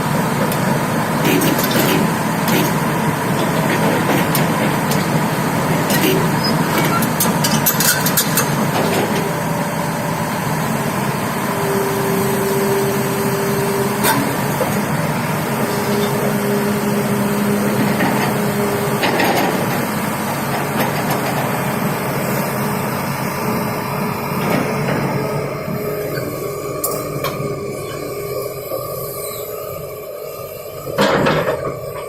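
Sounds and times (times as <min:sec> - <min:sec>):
excavator engine drone: 0:00.0 - 0:32.0
hydraulic whine: 0:01.2 - 0:32.0.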